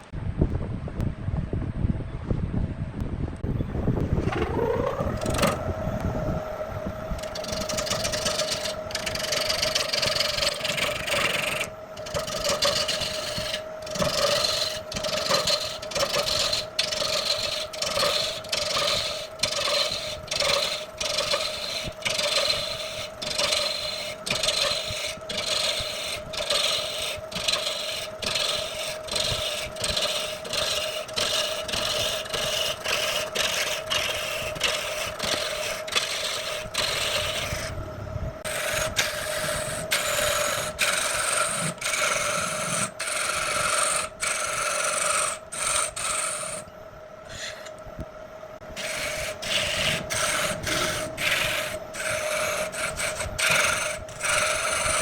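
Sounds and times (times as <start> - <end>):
wood lathe motor whine: 3.7 - 47.8, 48.4 - 55.0
tool scraping spinning wood: 3.9 - 37.8, 38.4 - 47.8, 48.6 - 55.0.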